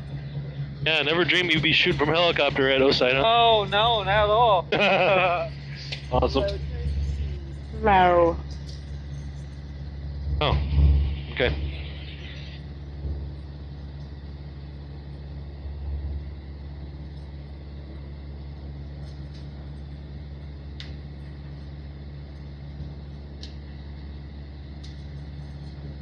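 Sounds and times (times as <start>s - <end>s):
helicopter idling: 0.0s - 26.0s.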